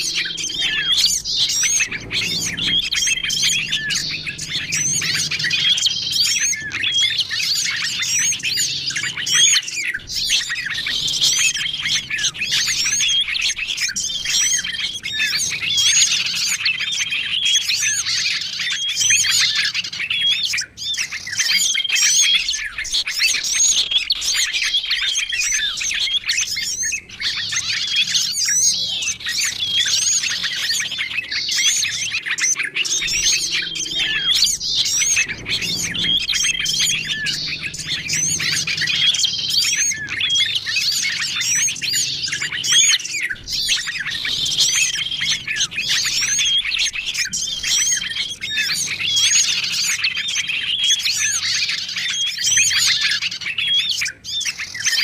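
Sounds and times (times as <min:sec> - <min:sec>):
songbirds chirping chorus: 0:00.0 - 0:55.0.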